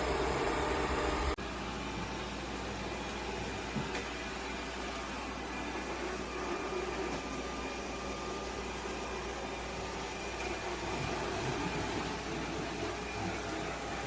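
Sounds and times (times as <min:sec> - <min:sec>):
machine whirring: 0:00.0 - 0:14.0.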